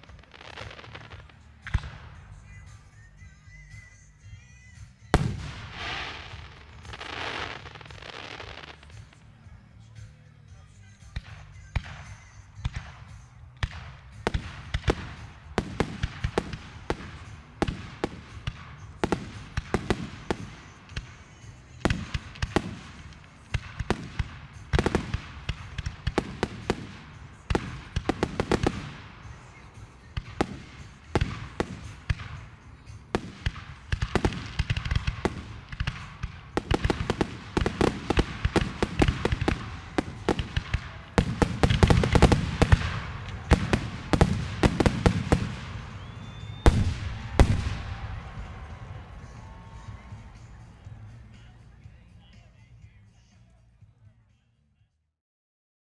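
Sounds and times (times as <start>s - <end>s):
fireworks bangs and pops: 0.0s - 3.8s, 5.1s - 9.4s, 10.9s - 50.6s
fireworks rumble: 0.0s - 54.1s.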